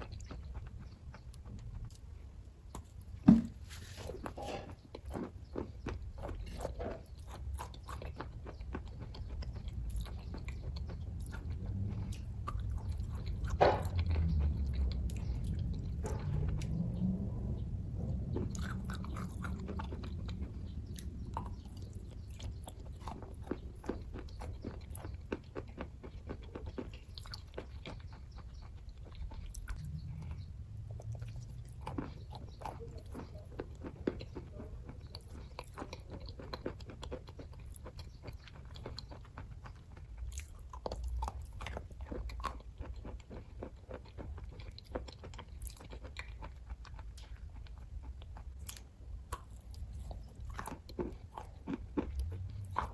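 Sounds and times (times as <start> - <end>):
close-up chewing: 0.0 - 52.9.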